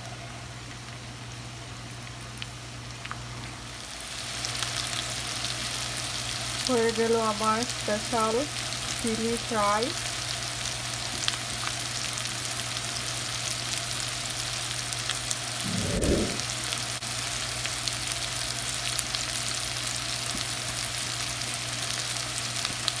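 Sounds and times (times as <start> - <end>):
food sizzling in hot oil: 3.1 - 23.0.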